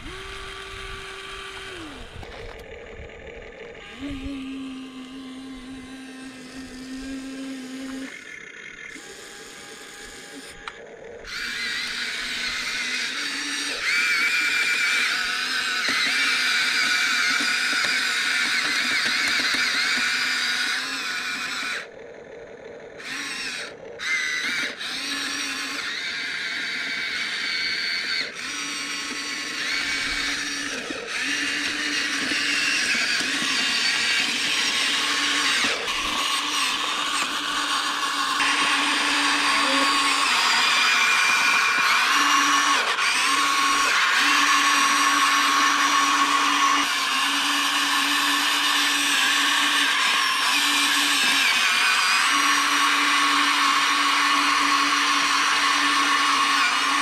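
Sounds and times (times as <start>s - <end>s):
toy excavator motors whining: 0.0s - 57.0s.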